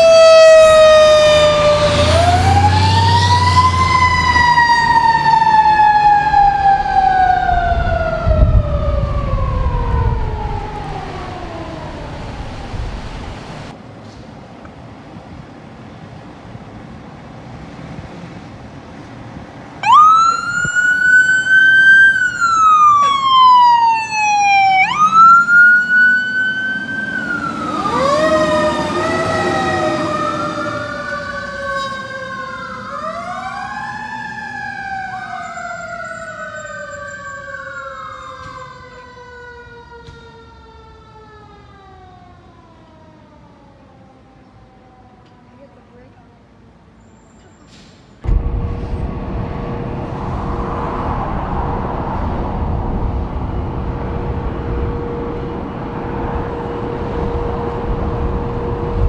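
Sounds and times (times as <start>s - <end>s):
fire engine siren wailing: 0.0s - 13.8s, 19.6s - 46.2s, 48.2s - 59.0s.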